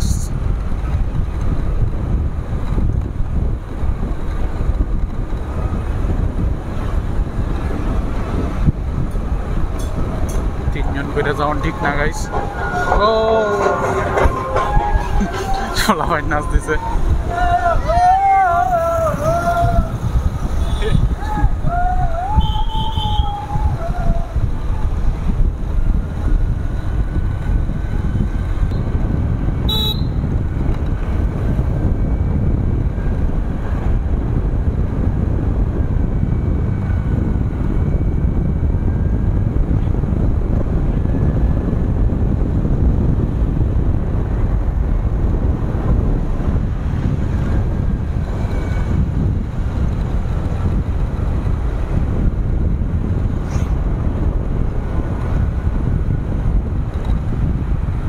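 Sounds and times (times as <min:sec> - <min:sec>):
wind rushing on microphone: 0:00.0 - 0:58.0.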